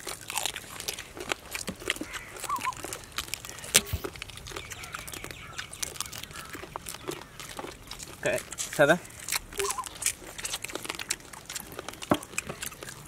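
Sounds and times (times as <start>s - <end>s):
crab shells cracking: 0.0s - 13.0s.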